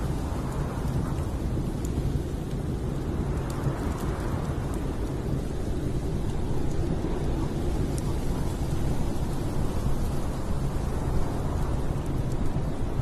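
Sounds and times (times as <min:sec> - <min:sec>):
storm wind rumbling: 0:00.0 - 0:13.0
wood fire crackling: 0:00.0 - 0:13.0.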